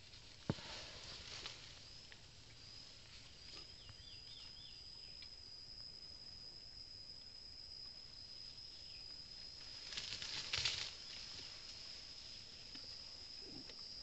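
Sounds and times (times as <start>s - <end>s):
insect droning: 0.0s - 14.0s.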